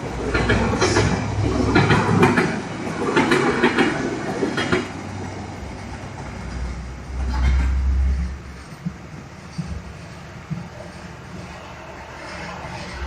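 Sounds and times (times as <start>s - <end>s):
train rumbling past: 0.0s - 13.0s
wheels clacking over rail joints: 0.0s - 13.0s.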